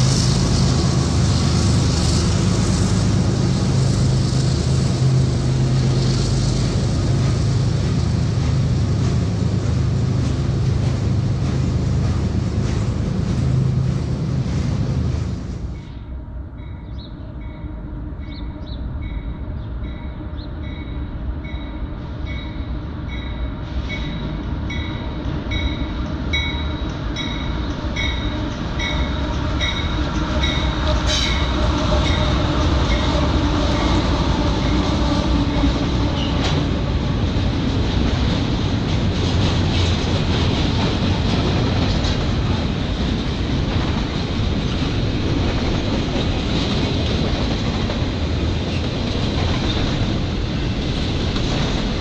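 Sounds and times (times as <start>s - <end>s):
freight train rumble and clatter: 0.0s - 52.0s.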